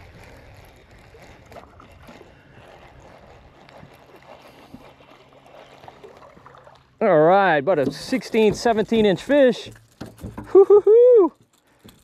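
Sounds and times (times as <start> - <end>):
water lapping against boat: 0.0 - 10.6.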